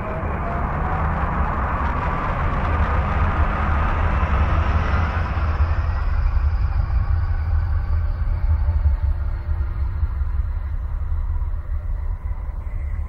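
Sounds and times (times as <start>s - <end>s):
deep rumble: 0.0s - 13.0s
faint whining tones: 0.0s - 13.0s.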